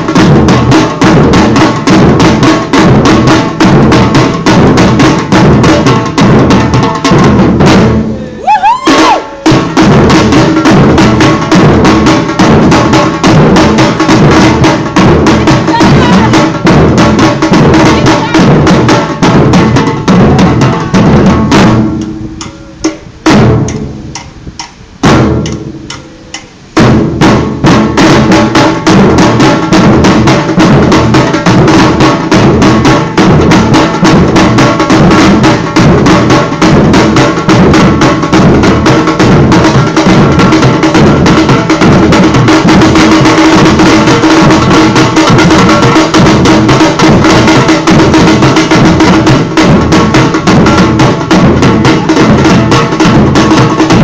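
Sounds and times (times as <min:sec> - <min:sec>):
lone drum hits: 0:00.0 - 0:08.0, 0:08.6 - 0:26.1, 0:26.8 - 0:54.0
drum ensemble playing samba rhythm: 0:00.0 - 0:54.0.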